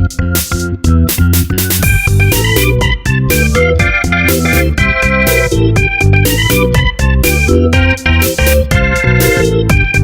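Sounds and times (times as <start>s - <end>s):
instrumental music with keyboard and guitar: 0.0s - 10.0s.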